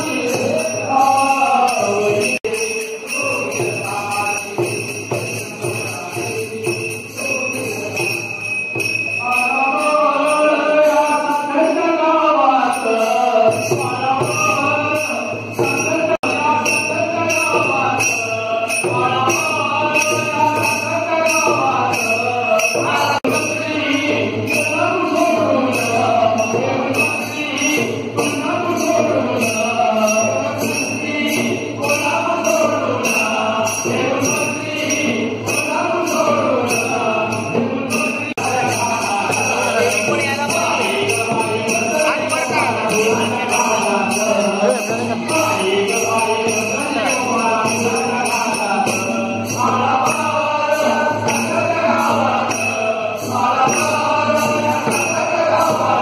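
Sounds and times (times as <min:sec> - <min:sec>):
jingling beat: 0:00.0 - 0:56.0.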